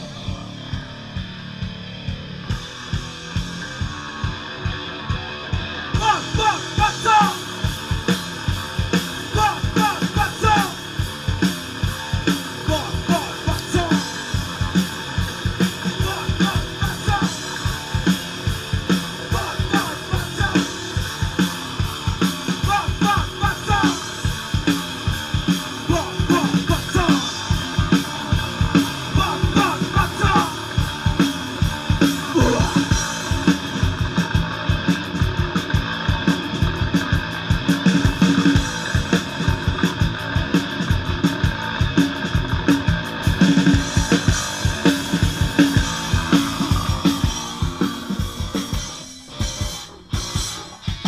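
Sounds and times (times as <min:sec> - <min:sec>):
drum kit beat: 0:00.0 - 0:51.0
electric guitar: 0:00.0 - 0:51.0.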